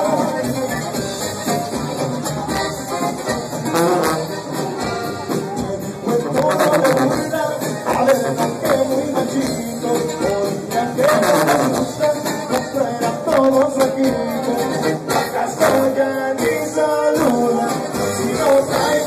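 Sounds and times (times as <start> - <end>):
live brass band music: 0.0 - 19.0.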